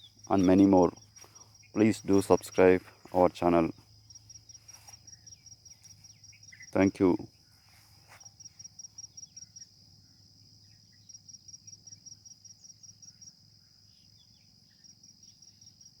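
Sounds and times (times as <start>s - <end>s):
field insects chirping: 0.0s - 16.0s.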